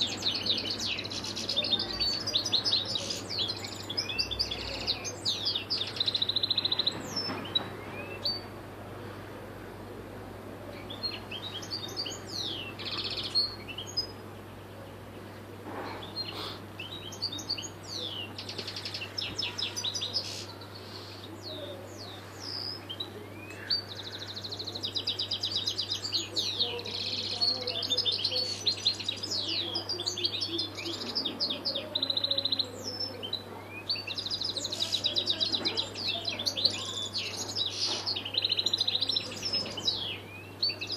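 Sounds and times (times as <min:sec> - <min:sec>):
finch singing twittering trills: 0:00.0 - 0:08.6, 0:10.8 - 0:14.7, 0:16.0 - 0:40.9.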